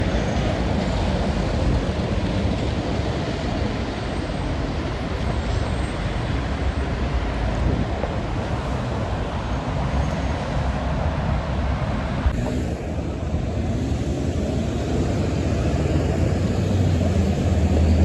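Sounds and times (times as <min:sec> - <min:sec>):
vehicle rumble and road noise: 0:00.0 - 0:18.0.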